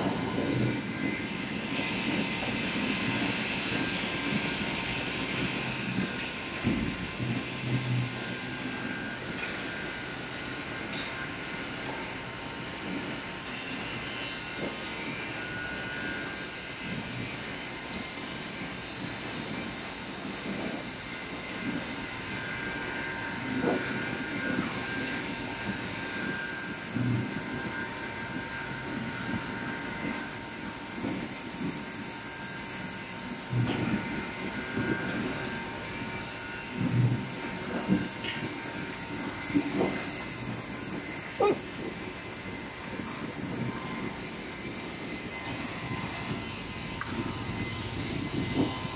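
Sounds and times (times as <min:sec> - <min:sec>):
circular saw machines running: 0:00.0 - 0:48.9.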